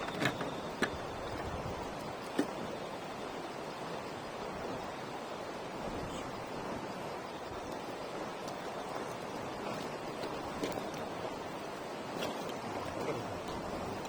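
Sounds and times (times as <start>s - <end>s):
campfire hissing and crackling: 0.0s - 14.0s.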